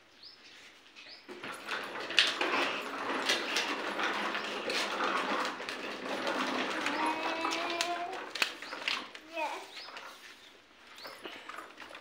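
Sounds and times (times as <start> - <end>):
plastic wheels rolling on concrete: 0.4 - 12.0.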